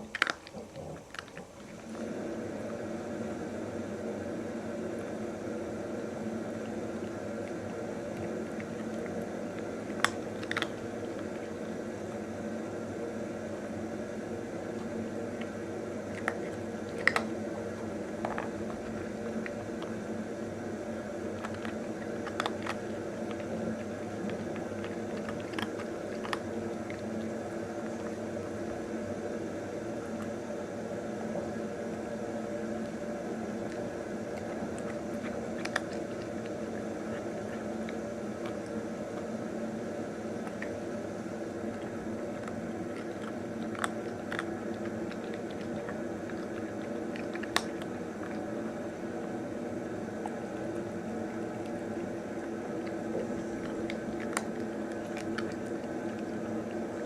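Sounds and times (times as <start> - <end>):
cat crunching dry kibble: 0.0 - 2.1, 5.9 - 12.6, 13.7 - 30.4, 31.4 - 57.0
steady low hum: 0.0 - 57.0.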